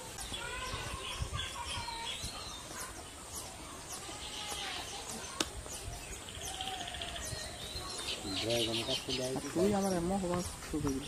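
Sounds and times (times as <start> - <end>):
bird trill: 0.0 - 10.1
birds chirping and chattering: 0.0 - 11.0.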